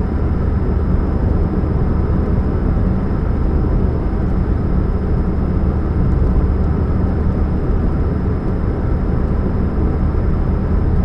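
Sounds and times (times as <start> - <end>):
car engine hum and rumble: 0.0 - 11.0.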